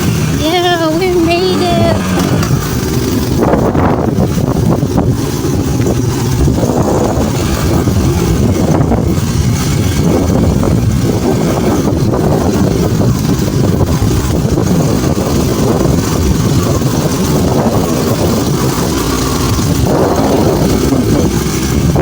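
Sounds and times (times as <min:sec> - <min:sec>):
motorcycle running: 0:00.0 - 0:22.0
wind rumble on microphone: 0:00.0 - 0:22.0.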